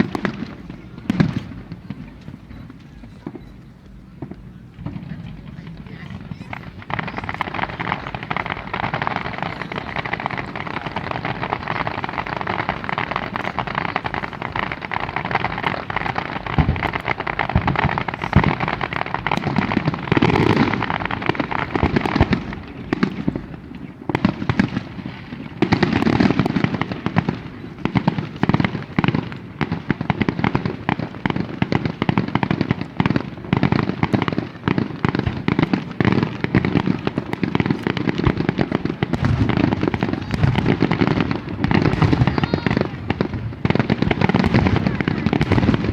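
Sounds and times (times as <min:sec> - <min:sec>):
fireworks bangs: 0:00.0 - 0:45.9
fireworks crackling and popping: 0:00.0 - 0:45.9.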